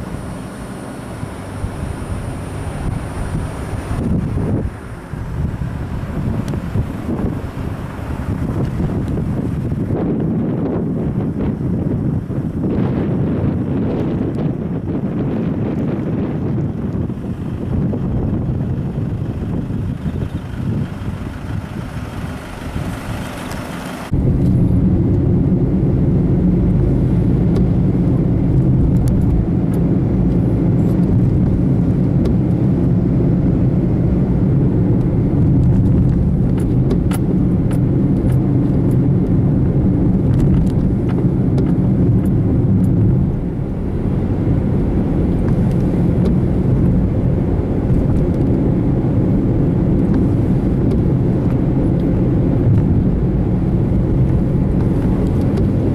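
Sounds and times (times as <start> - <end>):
car driving road rumble: 0.0 - 55.9.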